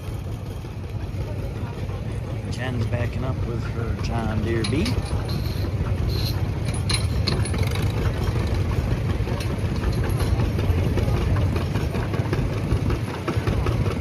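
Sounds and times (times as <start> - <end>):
tractor engine running at low speed: 0.0 - 14.0.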